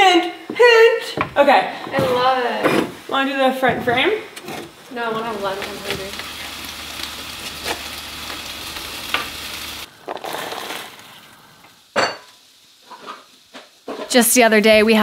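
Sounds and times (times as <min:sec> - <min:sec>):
steady hiss: 0:01.4 - 0:15.0.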